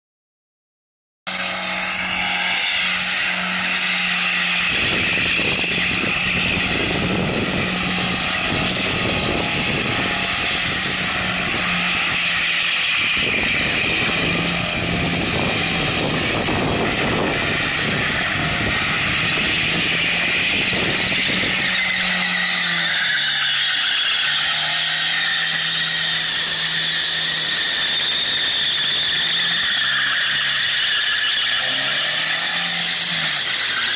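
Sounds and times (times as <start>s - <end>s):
car engine at high revs: 1.3s - 33.9s
tyres squealing: 1.3s - 33.9s.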